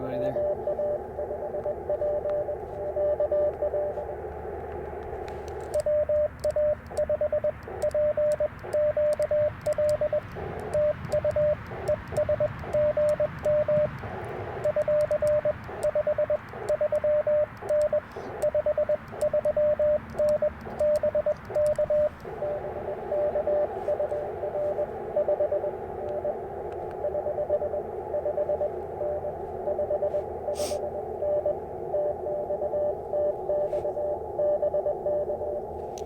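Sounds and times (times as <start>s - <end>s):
morse code tone: 0.0s - 4.3s, 5.1s - 35.7s
radio receiver hiss: 0.0s - 36.0s.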